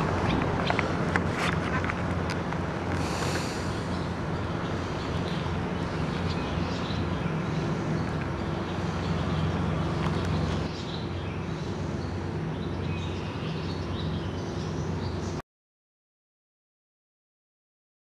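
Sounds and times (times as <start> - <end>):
engine humming: 0.0 - 15.4.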